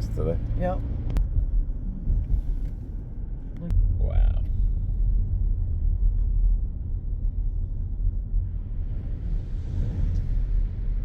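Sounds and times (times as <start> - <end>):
car driving low rumble: 0.0 - 11.0.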